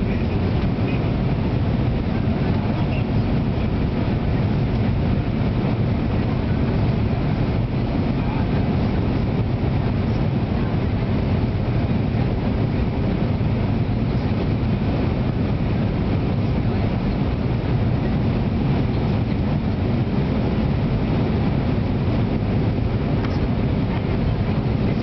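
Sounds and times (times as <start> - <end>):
airliner cabin roar: 0.0 - 25.0.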